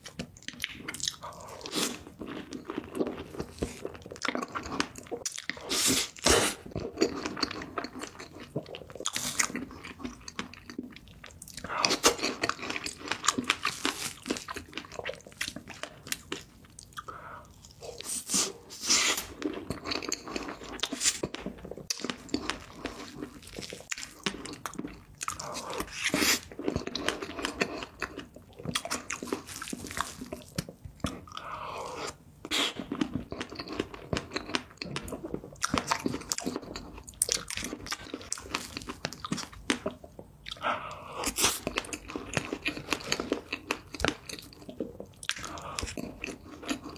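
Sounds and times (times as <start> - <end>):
person chewing: 0.0 - 46.9.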